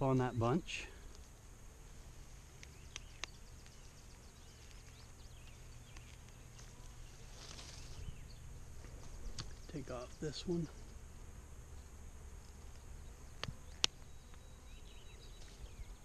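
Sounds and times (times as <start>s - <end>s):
bee swarm humming: 0.0s - 16.0s
leaves rustling: 0.0s - 16.0s.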